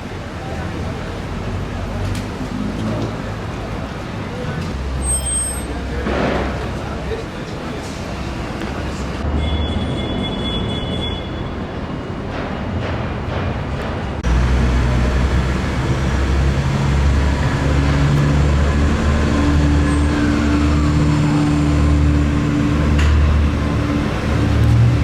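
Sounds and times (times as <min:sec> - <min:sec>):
vehicle engine hum with road noise: 0:00.0 - 0:25.0.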